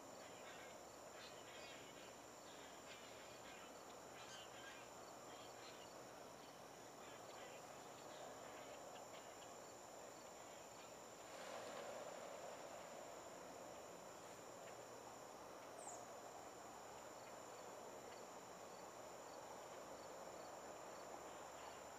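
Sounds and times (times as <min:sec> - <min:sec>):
steady high whine: 0:00.0 - 0:21.9.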